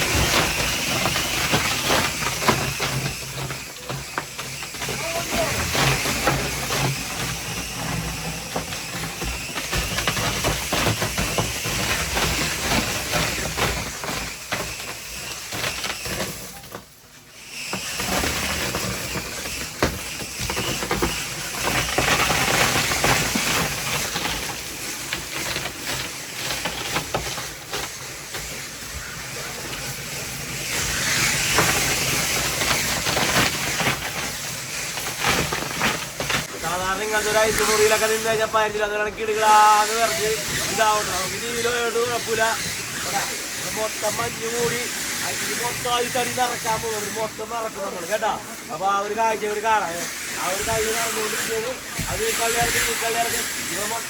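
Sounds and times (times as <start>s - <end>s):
crushed ice pouring: 0.0s - 54.0s
ice crusher running: 0.0s - 54.0s.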